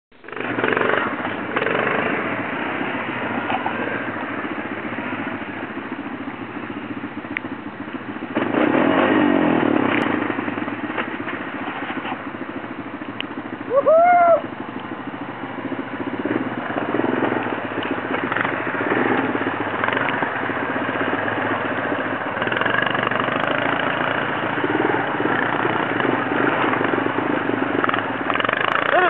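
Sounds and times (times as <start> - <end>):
approaching quad engine: 0.1 - 29.0
quad engine running: 0.1 - 29.0.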